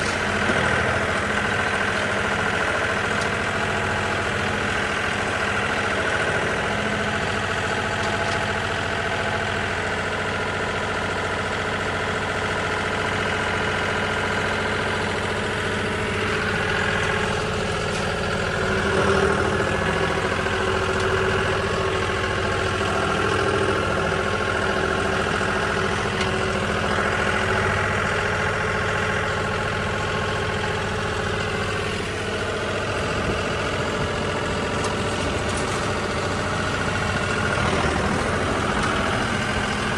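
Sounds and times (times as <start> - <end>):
hay-baling machinery working: 0.0 - 39.9
tractor engine running: 0.0 - 39.9.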